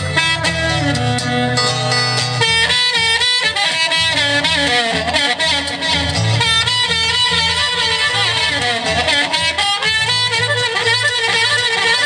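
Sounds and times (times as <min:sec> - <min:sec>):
blues band instrumental: 0:00.0 - 0:12.0
lead melody bending in pitch: 0:00.0 - 0:12.0.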